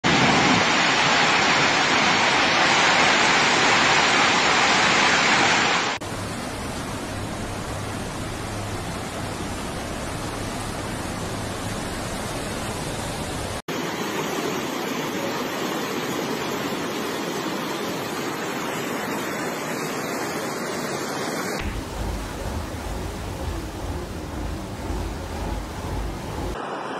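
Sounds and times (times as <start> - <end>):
floodwater rushing: 0.1 - 26.9.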